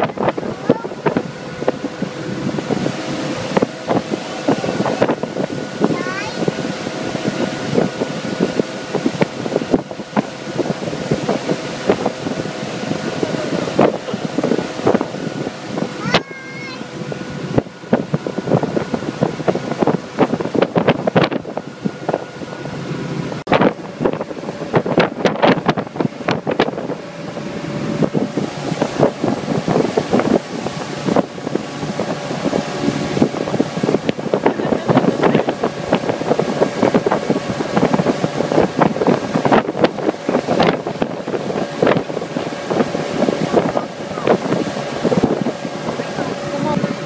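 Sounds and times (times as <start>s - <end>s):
boat engine running: 0.0s - 47.0s
water rushing past hull: 0.0s - 47.0s
wind buffeting microphone: 0.0s - 47.0s.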